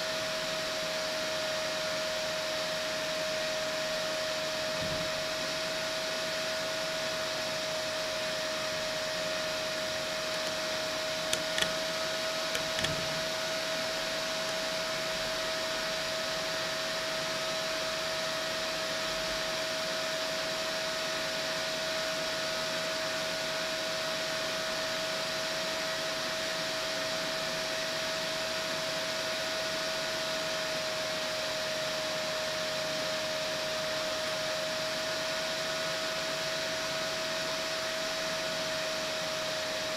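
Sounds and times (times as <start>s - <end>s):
cooling fan whirring: 0.0s - 39.9s.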